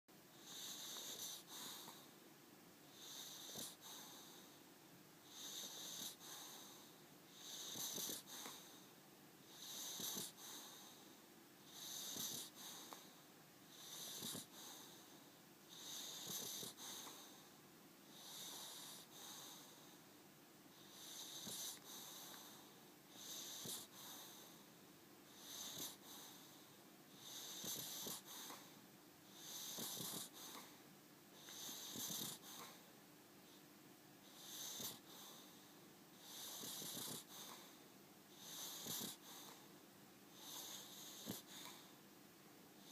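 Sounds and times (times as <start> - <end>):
dog snoring with whistle: 0.3 - 2.1, 2.9 - 4.6, 5.2 - 8.9, 9.5 - 17.5, 18.1 - 20.0, 20.7 - 24.6, 25.3 - 30.8, 31.4 - 32.9, 34.2 - 39.7, 40.3 - 41.9.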